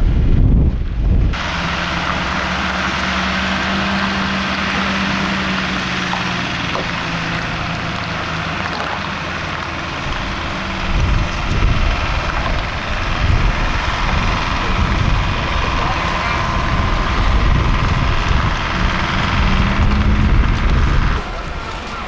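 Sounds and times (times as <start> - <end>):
heavy engine humming: 0.0 - 22.0.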